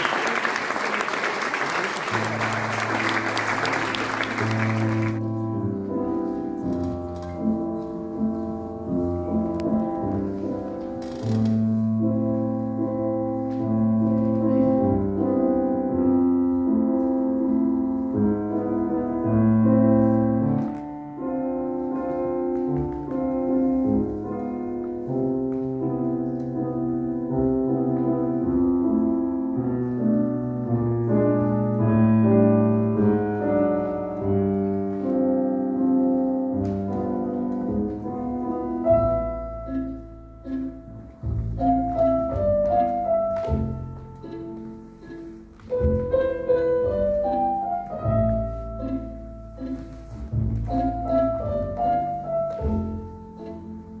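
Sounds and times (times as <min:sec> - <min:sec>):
tango music with piano: 0:00.0 - 0:54.0.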